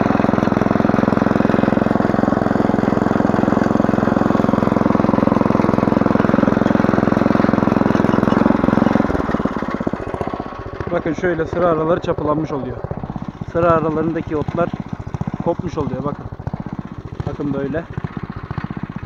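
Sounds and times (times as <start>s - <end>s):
small tiller engine puttering: 0.0s - 19.0s.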